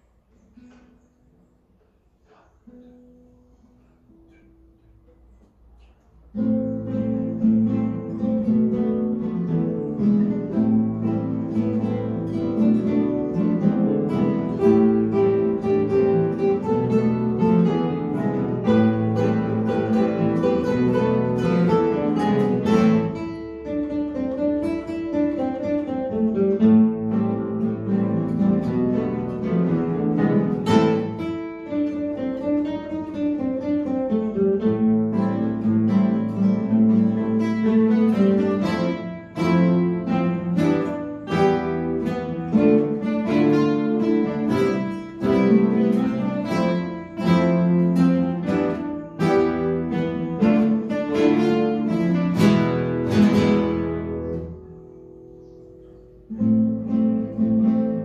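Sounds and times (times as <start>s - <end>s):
classical guitars playing bossa nova: 0.0s - 58.0s.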